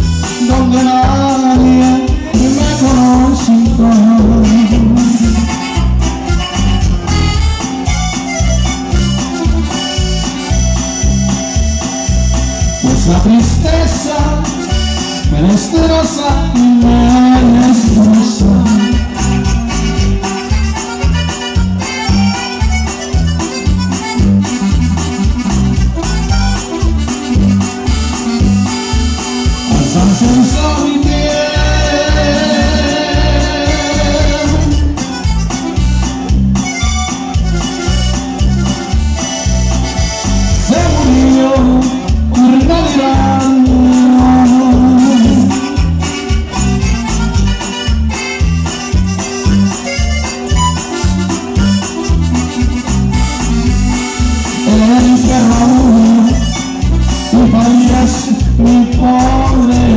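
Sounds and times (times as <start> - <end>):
accordion dance music: 0.0 - 59.9
bouncing bass line: 0.0 - 59.9.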